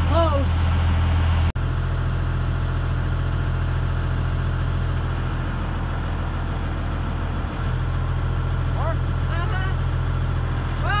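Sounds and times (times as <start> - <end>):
excavator engine idling: 0.0 - 11.0.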